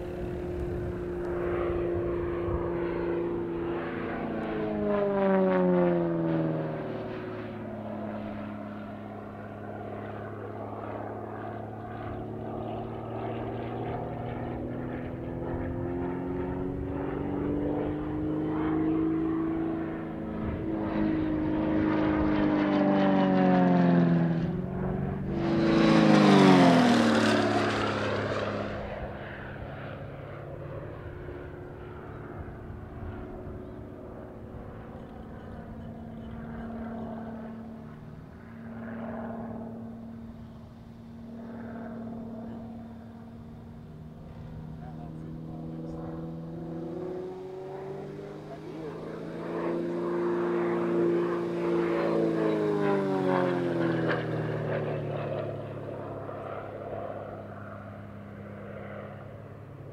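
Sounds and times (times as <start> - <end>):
plane engine and propeller: 0.0 - 59.9.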